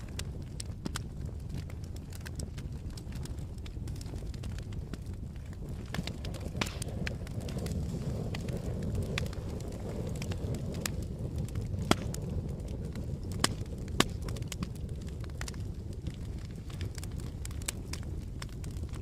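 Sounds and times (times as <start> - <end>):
campfire burning: 0.0 - 19.0
fire crackles and pops: 0.0 - 19.0
loud fire snaps: 0.0 - 19.0.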